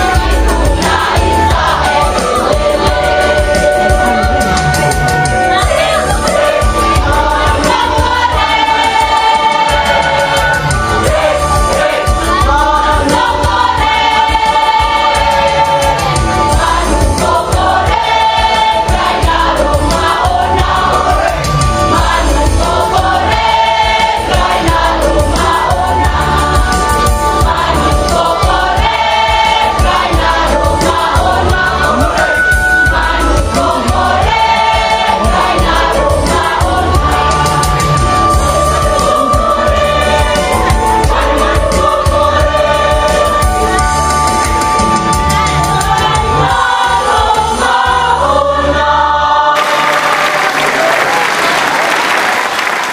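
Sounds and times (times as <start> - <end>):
choir singing: 0.0 - 51.6.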